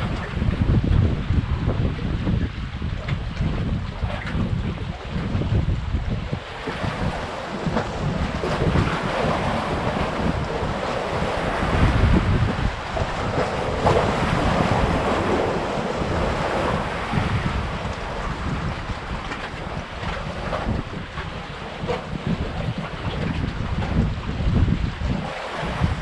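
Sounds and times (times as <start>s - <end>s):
waves splashing against concrete: 0.0s - 26.0s
wind buffeting microphone: 0.0s - 26.0s.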